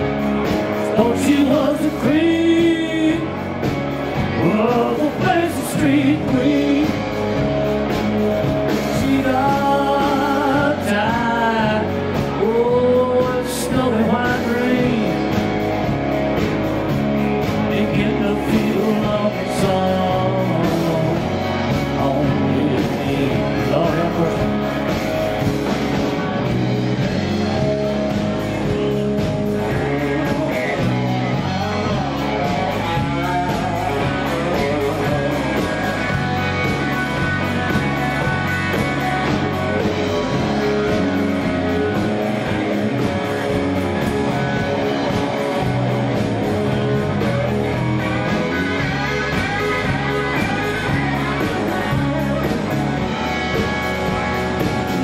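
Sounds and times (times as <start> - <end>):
bass line: 0.0 - 55.0
drums: 0.0 - 55.0
electric guitar lead: 0.0 - 55.0.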